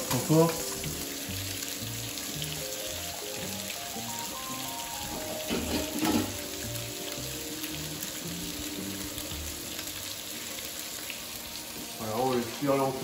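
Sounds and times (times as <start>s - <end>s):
fish sizzling in butter: 0.0s - 13.0s.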